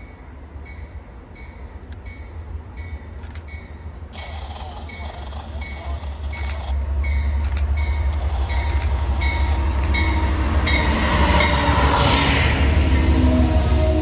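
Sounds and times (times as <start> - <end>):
diesel locomotive engine rumble: 0.0 - 14.0
train wheel noise: 0.0 - 14.0
passenger cars rolling by: 2.4 - 14.0.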